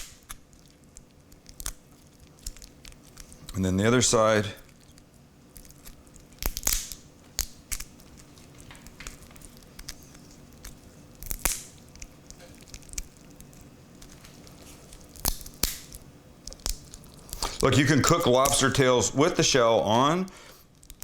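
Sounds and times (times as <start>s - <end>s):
shell cracking and crunching: 0.0s - 3.6s, 4.4s - 19.4s, 20.2s - 21.0s.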